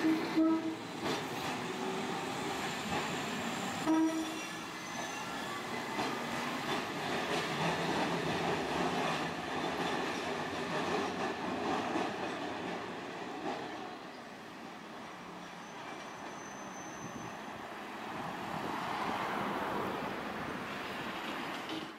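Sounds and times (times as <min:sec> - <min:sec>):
road traffic: 0:00.0 - 0:11.6, 0:13.8 - 0:21.9
streetcar wheels rumbling on rails: 0:00.0 - 0:21.9.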